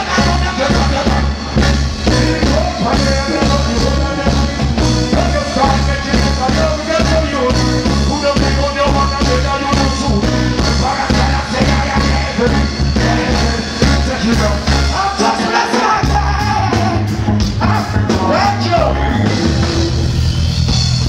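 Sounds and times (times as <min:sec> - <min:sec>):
man singing: 0:00.0 - 0:19.5
live reggae band: 0:00.0 - 0:21.0
pulsing bass line: 0:00.0 - 0:21.0.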